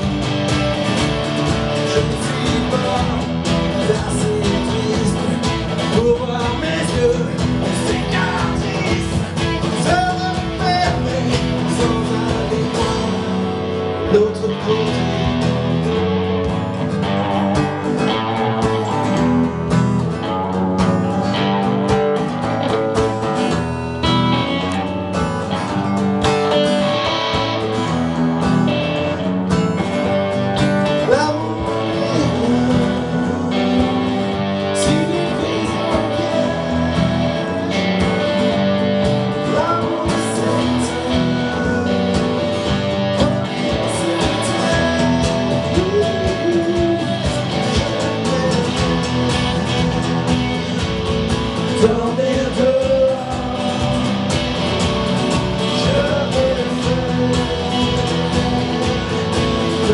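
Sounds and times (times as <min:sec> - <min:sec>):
electric guitar playing: 0:00.0 - 0:59.9
strummed acoustic guitar: 0:00.0 - 0:59.9.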